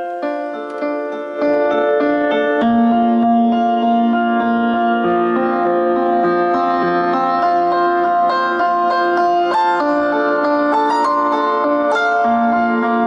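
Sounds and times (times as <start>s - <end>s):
instrumental music over speakers: 0.0s - 13.0s.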